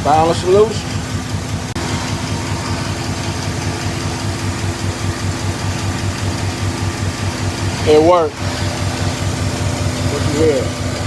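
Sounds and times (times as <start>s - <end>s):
engine idling with lifter tick: 0.0s - 11.0s.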